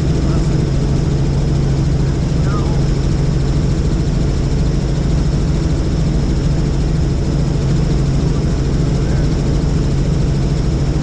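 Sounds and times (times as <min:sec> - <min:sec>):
helicopter in flight: 0:00.0 - 0:11.0.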